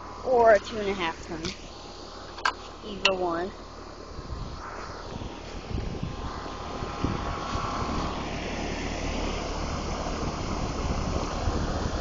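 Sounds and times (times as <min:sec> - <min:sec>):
air conditioner fan rushing: 0:00.0 - 0:12.0
low hum: 0:00.0 - 0:12.0.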